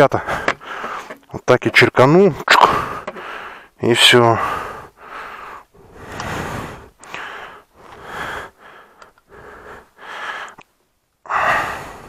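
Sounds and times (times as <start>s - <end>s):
person breathing quickly: 0.2s - 1.3s, 2.6s - 10.7s, 11.3s - 12.0s.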